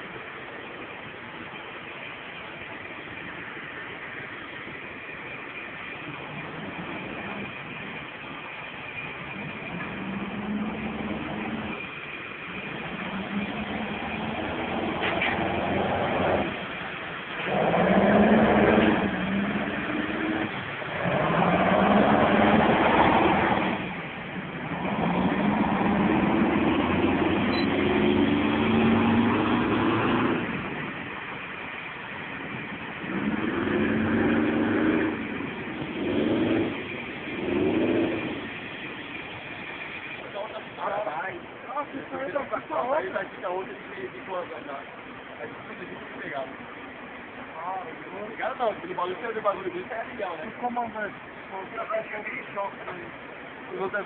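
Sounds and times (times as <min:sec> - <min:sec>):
faint high whine: 0:00.0 - 0:54.0
fire truck engine running: 0:00.0 - 0:54.0.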